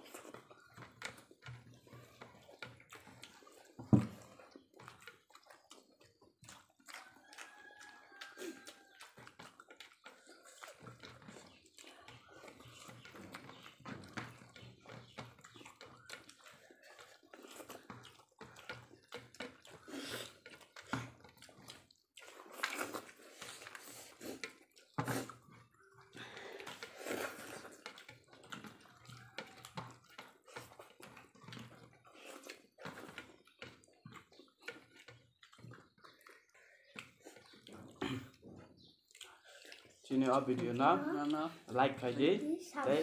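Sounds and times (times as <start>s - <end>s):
people eating and chewing: 0.0s - 43.0s.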